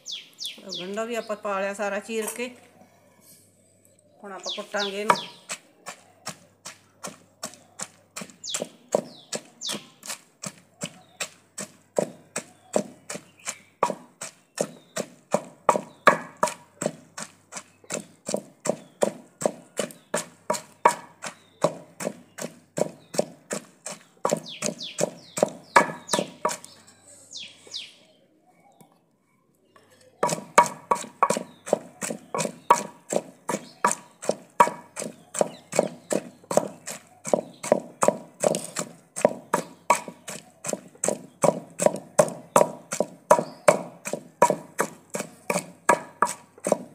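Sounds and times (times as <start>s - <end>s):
wooden pestle pounding in clay pot: 4.5s - 26.8s, 30.2s - 46.9s.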